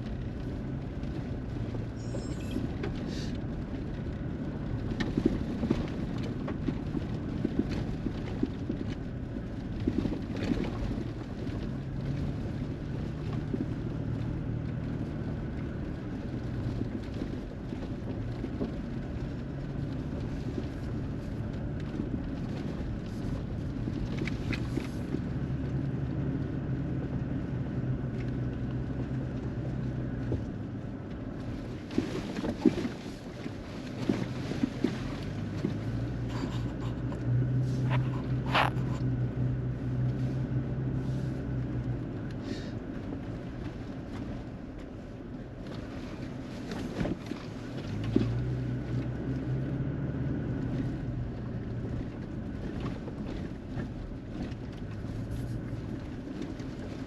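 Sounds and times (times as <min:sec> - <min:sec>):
car engine hum: 0:00.0 - 0:57.0
road rumble: 0:00.0 - 0:57.0.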